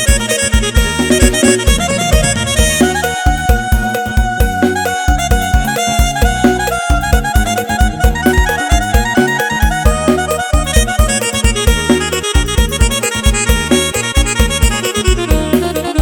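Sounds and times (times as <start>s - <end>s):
heavy bass drum beat: 0.0s - 16.0s
string-like keyboard lead melody: 0.0s - 16.0s.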